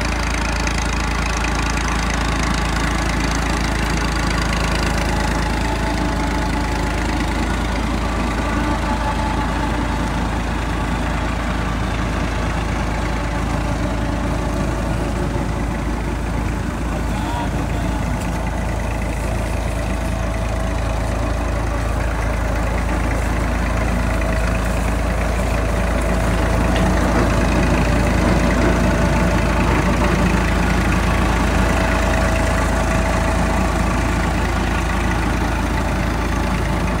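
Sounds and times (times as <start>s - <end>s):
tractor diesel engine under load: 0.0s - 37.0s.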